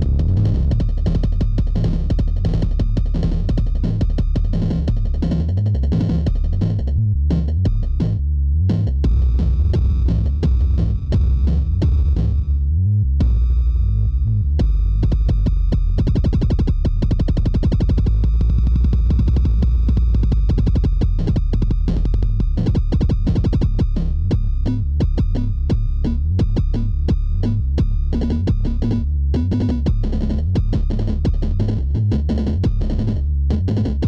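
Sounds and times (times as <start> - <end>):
drum machine: 0.0 - 12.5, 13.2 - 13.5, 14.5 - 34.0
synthesizer fast sequenced pattern: 0.0 - 12.5, 14.6 - 34.0
heavy synth bass: 0.0 - 34.0.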